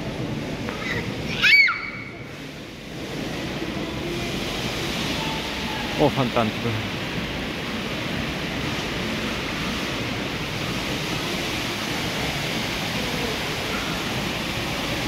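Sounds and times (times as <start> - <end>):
fountain jets splashing: 0.0 - 15.0.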